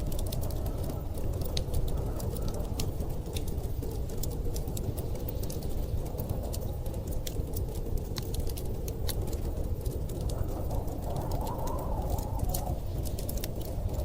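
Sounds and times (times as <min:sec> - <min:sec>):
low rumble of storm wind: 0:00.0 - 0:14.0
wood fire crackling and popping: 0:00.0 - 0:14.0.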